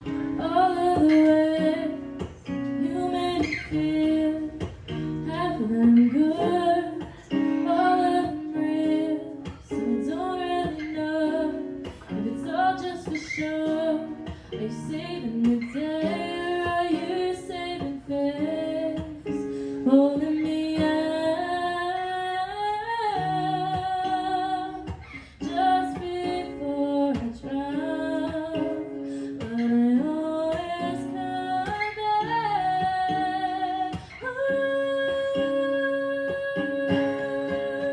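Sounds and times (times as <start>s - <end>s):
acoustic guitar: 0.0s - 37.9s
woman singing: 0.0s - 37.9s.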